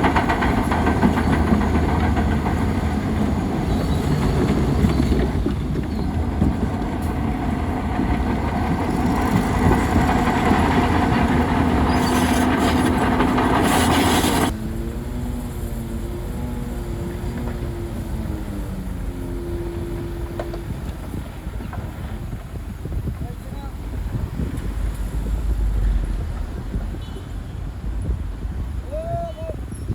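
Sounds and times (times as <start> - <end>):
quieter engine with varying pitch: 0.0 - 27.0
bulldozer diesel engine rattling: 0.0 - 28.8.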